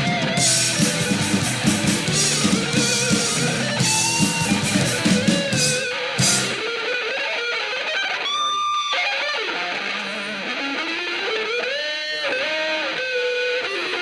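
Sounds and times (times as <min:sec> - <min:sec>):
electric guitar bending notes: 0:00.0 - 0:14.0.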